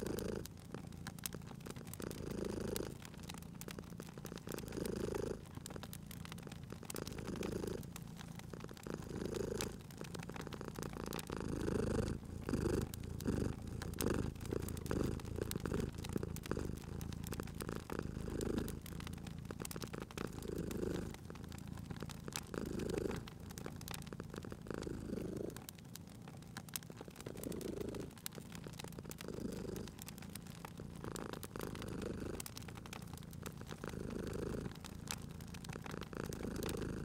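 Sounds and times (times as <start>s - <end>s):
cat purring: 0.0s - 37.0s
wood fire crackling: 0.0s - 37.0s.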